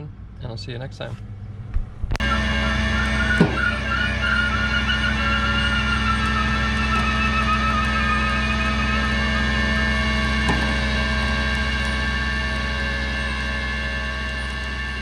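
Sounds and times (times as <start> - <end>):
vehicle engine idling: 0.0 - 15.0
thin wavering whine: 1.2 - 15.0.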